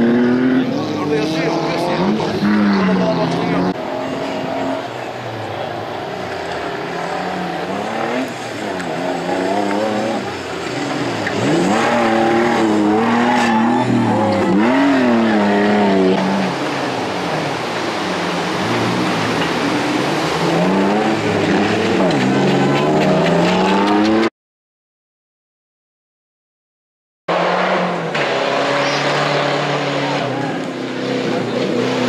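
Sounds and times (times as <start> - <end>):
engine revving hard: 0.0 - 24.3, 27.3 - 32.0.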